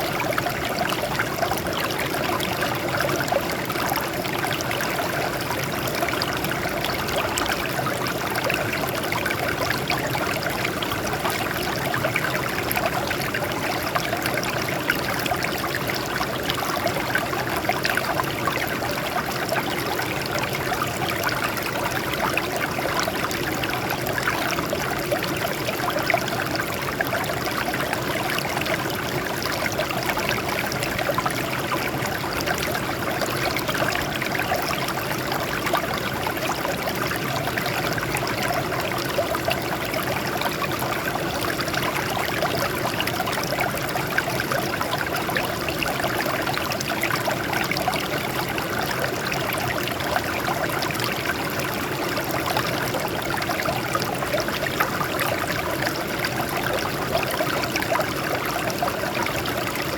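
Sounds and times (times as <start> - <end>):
water flowing over rocks: 0.0 - 59.9.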